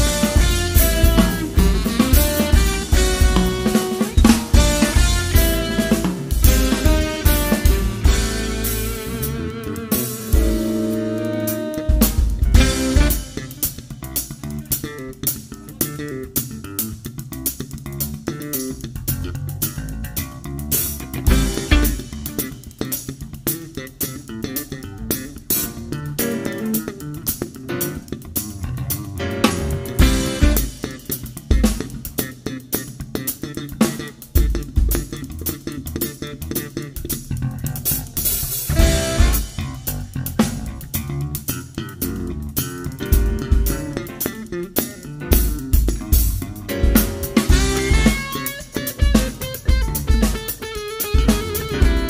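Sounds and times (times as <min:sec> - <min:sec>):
bass guitar: 0:00.0 - 0:52.0
drums: 0:00.0 - 0:52.0
jazz guitar line: 0:00.0 - 0:52.0.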